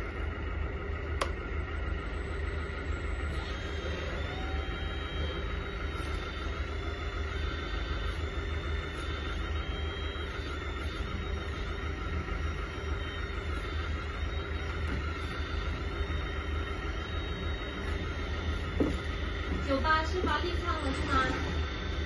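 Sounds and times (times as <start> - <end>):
hydraulic pump humming and whining: 0.0 - 22.0.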